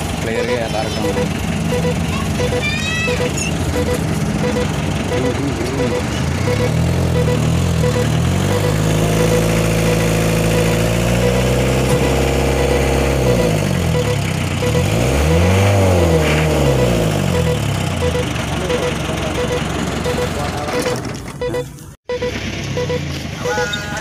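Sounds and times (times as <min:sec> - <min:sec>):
large vehicle engine revving: 0:00.0 - 0:24.0.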